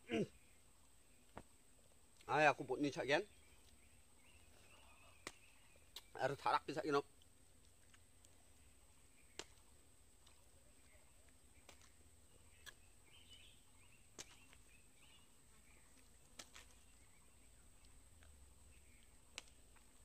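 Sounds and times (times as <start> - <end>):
faint chirps: 0.0 - 20.0.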